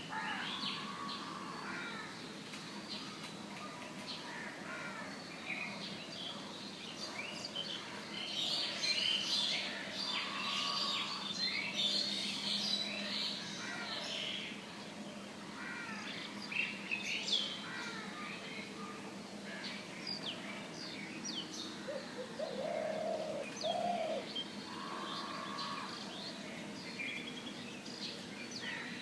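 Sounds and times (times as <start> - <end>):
birds chirping and singing: 0.0 - 29.0.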